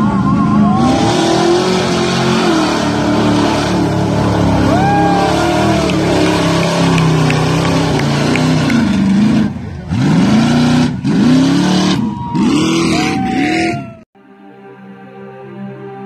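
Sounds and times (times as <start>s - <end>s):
truck engine revving: 0.0s - 14.1s.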